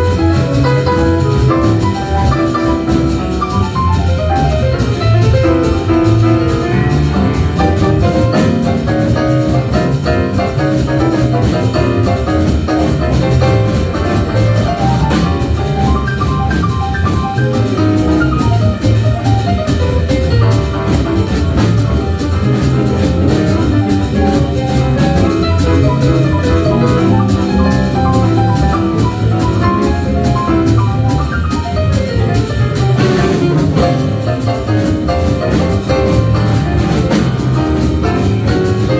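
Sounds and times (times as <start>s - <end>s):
jazz band playing: 0.0s - 38.9s
walking bass: 0.0s - 38.9s.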